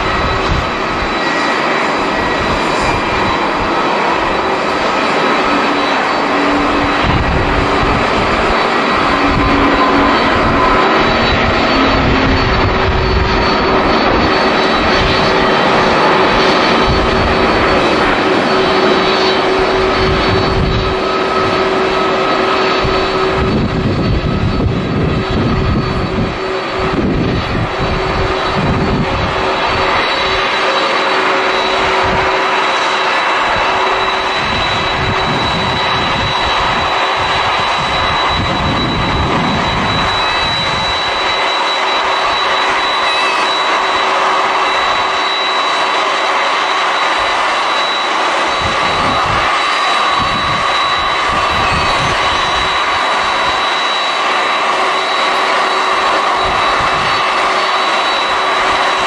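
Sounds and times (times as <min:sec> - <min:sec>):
wind buffeting microphone: 0:00.0 - 0:42.9, 0:48.2 - 0:53.7, 0:55.6 - 0:57.6
jet engine roar with fan whine: 0:00.0 - 0:59.0.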